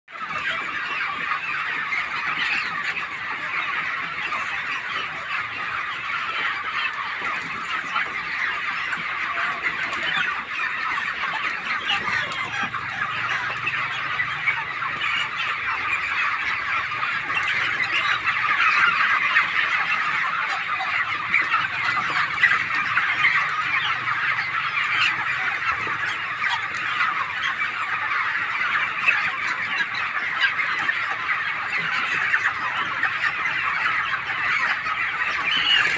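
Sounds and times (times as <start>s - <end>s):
chickens cheeping: 0.1s - 35.9s.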